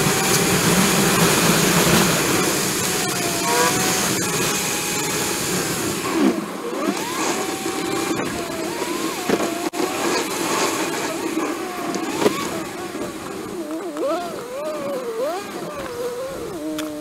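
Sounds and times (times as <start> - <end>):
road and engine noise in cabin: 0.0 - 17.0.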